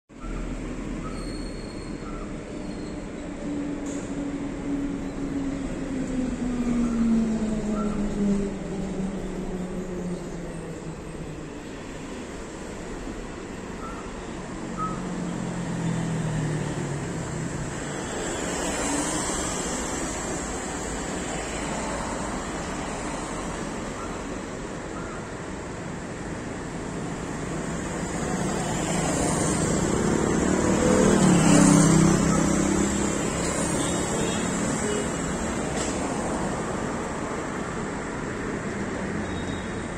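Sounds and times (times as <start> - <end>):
car engines passing: 3.3 - 39.9.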